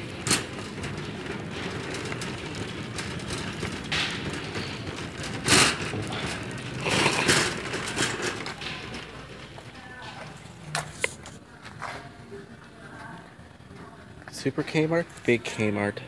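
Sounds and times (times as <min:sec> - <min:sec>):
shopping cart rattling: 0:00.0 - 0:16.0
shopping cart wheels rumbling: 0:00.0 - 0:16.0.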